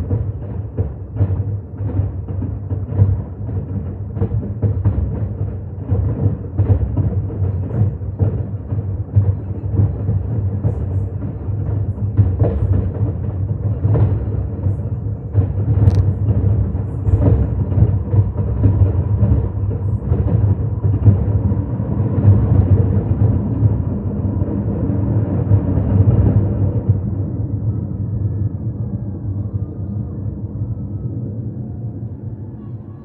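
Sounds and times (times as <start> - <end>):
fireworks exploding: 0.0 - 26.9
steady low rumble: 0.0 - 33.0.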